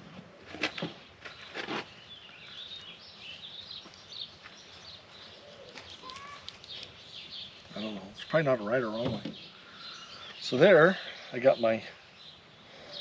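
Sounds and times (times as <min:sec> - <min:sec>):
birds chirping: 0:00.6 - 0:13.0.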